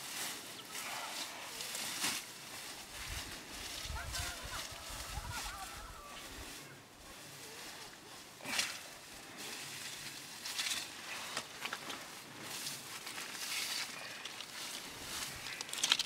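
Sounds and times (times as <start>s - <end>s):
dry straw rustling and scraping: 0.0s - 16.0s.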